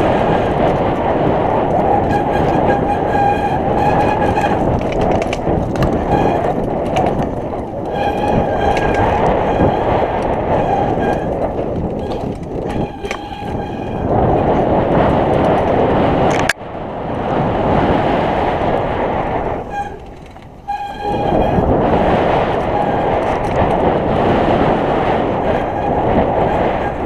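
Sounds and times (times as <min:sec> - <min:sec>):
freewheel hub buzzing: 0:00.0 - 0:16.6, 0:17.4 - 0:27.0
tyres rumbling over trail: 0:00.0 - 0:27.0
wind buffeting microphone: 0:00.0 - 0:27.0.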